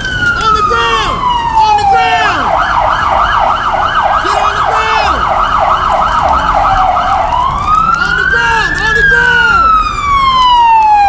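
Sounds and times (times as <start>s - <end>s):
emergency vehicle siren: 0.0s - 11.0s.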